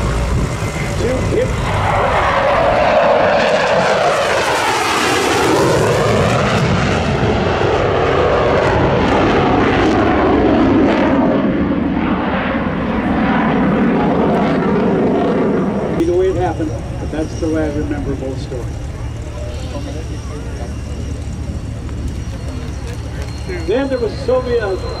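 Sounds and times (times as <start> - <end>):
fighter jet roar: 0.0 - 25.0.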